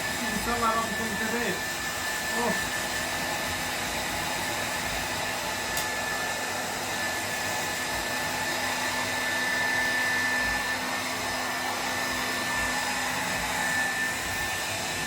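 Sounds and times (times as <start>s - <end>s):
hair dryer blowing with whine: 0.0s - 15.0s.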